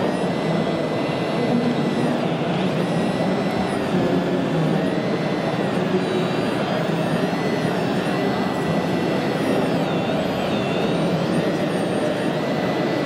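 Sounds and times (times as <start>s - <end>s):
background crowd noise: 0.0s - 13.0s
electric motors whining: 0.0s - 13.0s.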